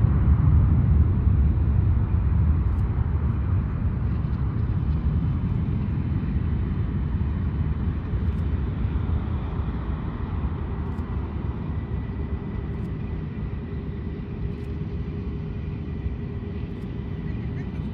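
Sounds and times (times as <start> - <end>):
distant jet engine rumble: 0.0 - 17.9.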